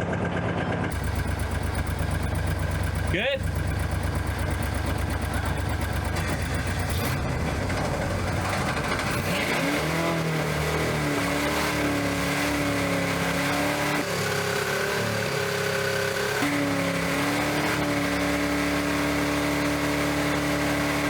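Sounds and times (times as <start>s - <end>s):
engine running at high revs: 0.0s - 21.0s.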